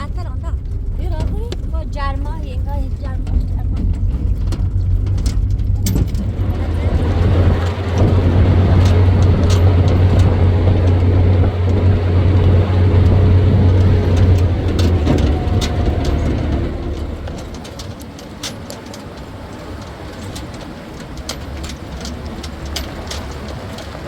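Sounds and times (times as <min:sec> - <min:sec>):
light clicks and rattles: 0:00.0 - 0:24.0
vehicle engine droning: 0:00.0 - 0:24.0.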